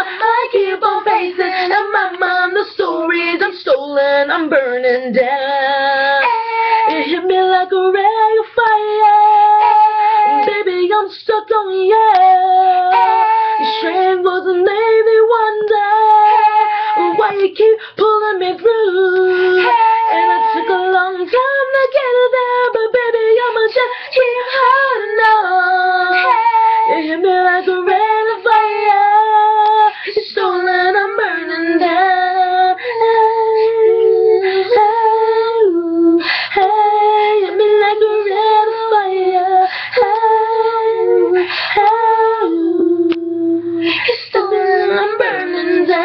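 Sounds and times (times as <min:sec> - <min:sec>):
girls singing without accompaniment: 0:00.0 - 0:46.0.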